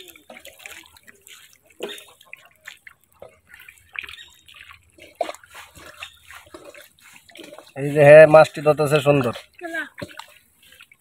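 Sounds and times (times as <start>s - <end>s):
splashes and drips of shallow water: 0.0s - 11.0s.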